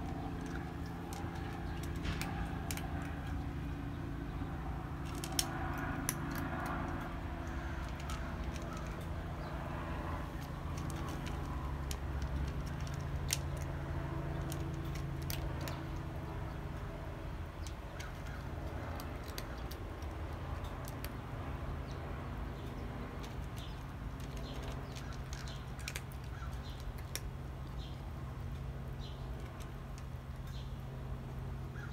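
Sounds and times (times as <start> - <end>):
cat crunching dry kibble: 0.0 - 31.4
steady low hum: 0.0 - 31.9.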